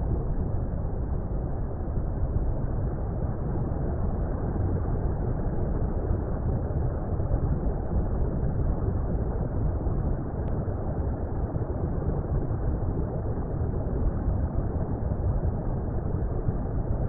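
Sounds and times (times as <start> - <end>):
deep water rumble: 0.0 - 17.0.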